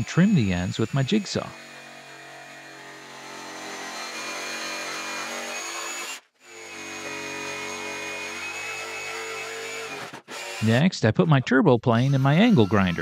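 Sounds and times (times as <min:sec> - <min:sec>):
jigsaw cutting wood: 0:00.0 - 0:10.8, 0:12.0 - 0:13.0.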